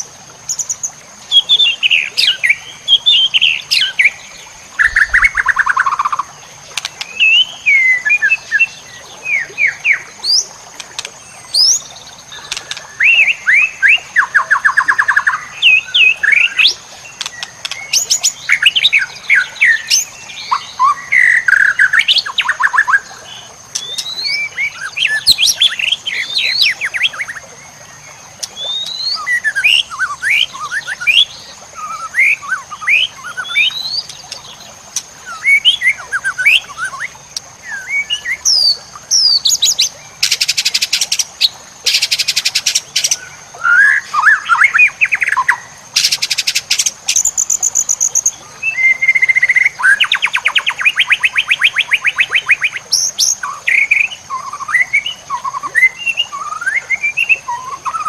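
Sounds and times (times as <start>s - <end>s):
songbird singing whistles and trills: 0.0s - 6.3s, 7.0s - 10.5s, 11.4s - 27.4s, 28.4s - 34.6s, 35.2s - 58.0s.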